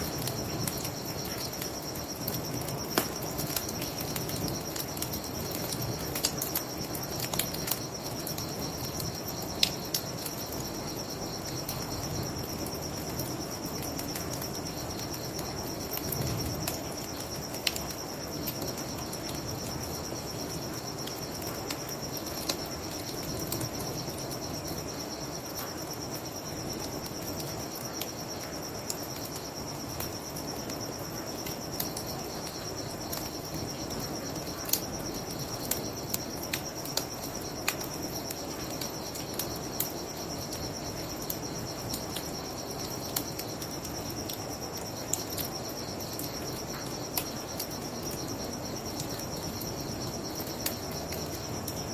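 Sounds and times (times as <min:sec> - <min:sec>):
bonfire crackling: 0:00.0 - 0:51.9
crickets chirping: 0:00.0 - 0:51.9.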